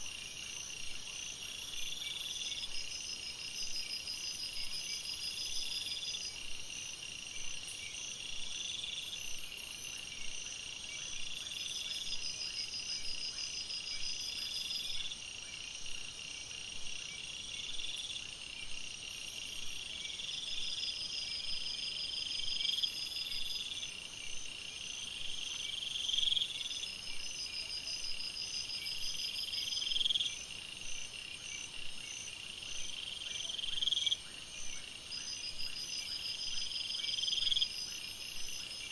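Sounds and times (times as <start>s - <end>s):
fast pulsed insect trills: 0.0s - 38.9s.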